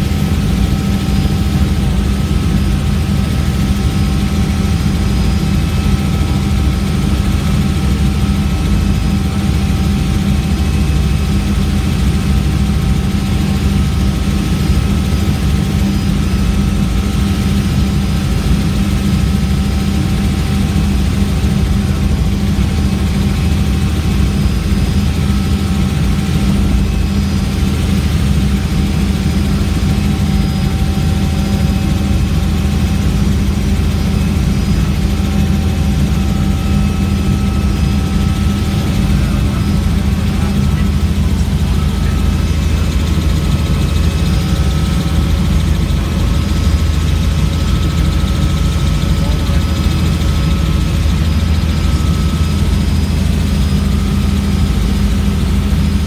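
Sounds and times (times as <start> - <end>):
faint whine: 0.0 - 56.0
helicopter engine and rotor drone: 0.0 - 56.0.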